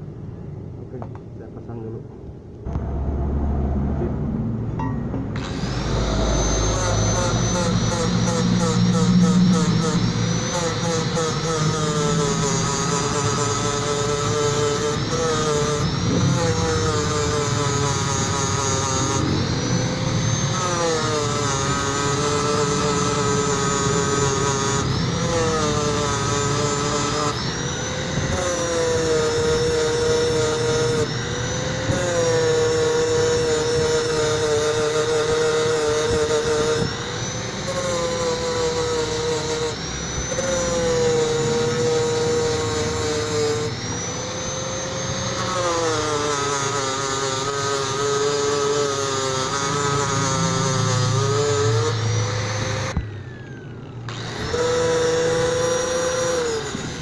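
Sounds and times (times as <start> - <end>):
angle grinder motor whine: 2.6 - 57.0.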